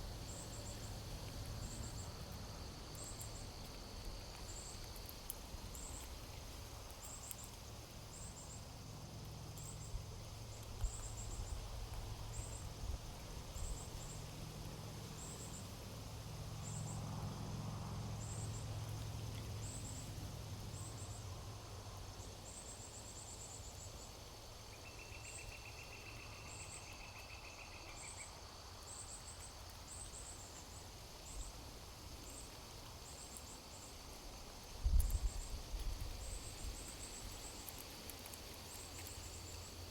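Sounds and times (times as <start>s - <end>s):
high insect drone: 0.0s - 39.9s
insects chirping: 0.0s - 39.9s.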